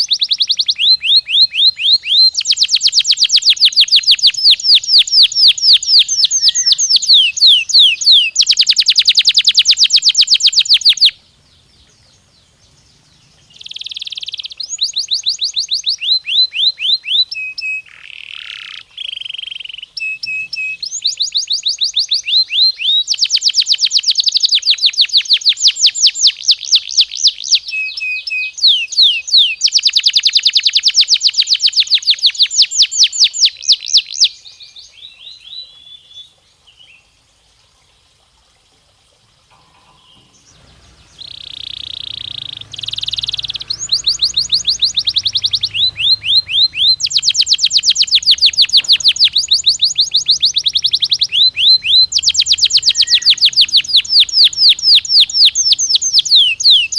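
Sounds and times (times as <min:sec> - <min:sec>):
canary singing trills: 0:00.0 - 0:37.1, 0:39.5 - 0:56.9.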